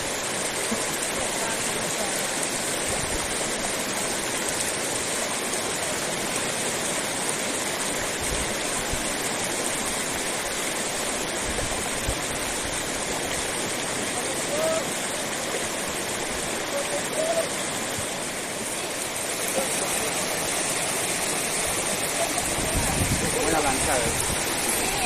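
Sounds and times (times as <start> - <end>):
fast-flowing river rushing: 0.0 - 25.0.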